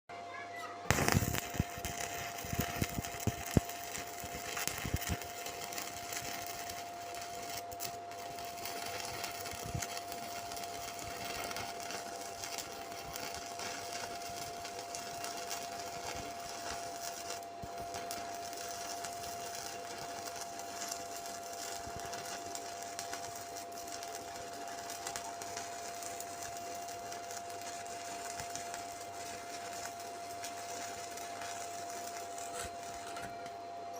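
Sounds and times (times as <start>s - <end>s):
steady whine: 0.1s - 33.9s
welding arc crackling: 0.6s - 33.5s.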